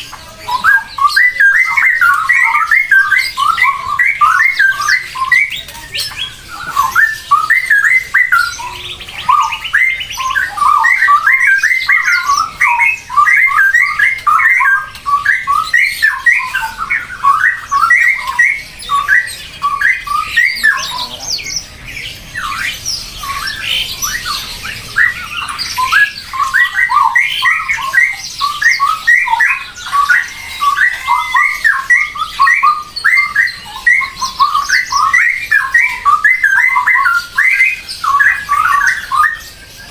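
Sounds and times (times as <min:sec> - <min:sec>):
birds squawking: 0:00.0 - 0:39.9.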